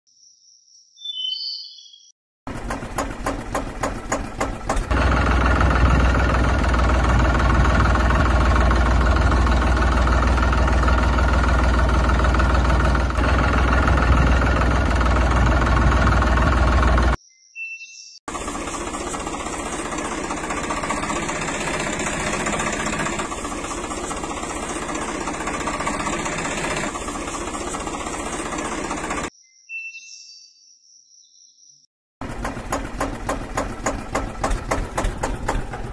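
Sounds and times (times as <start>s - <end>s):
tractor engine running: 2.5s - 17.2s, 18.3s - 29.3s, 32.2s - 35.9s.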